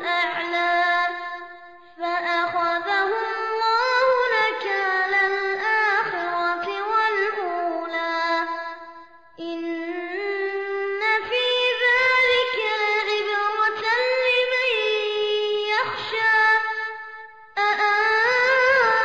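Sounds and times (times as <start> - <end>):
child chanting melodically: 0.0 - 19.0.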